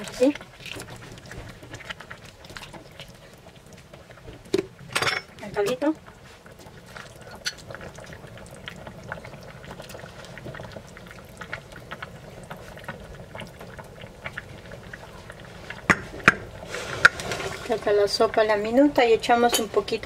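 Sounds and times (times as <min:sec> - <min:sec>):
soup bubbling in a pot: 0:00.0 - 0:20.0.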